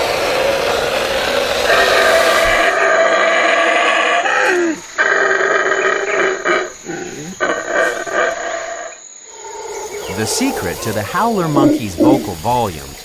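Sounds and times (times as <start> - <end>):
howler monkey roaring: 0.0 - 12.6.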